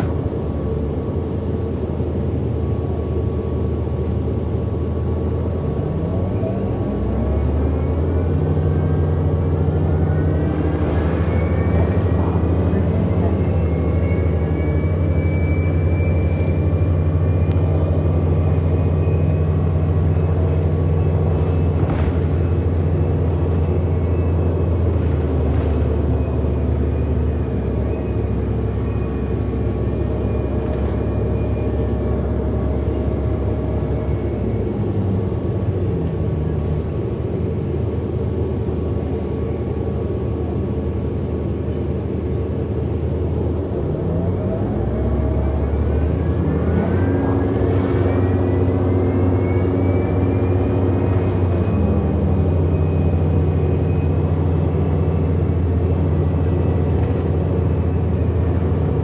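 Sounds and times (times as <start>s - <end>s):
bus drivetrain drone: 0.0s - 59.0s.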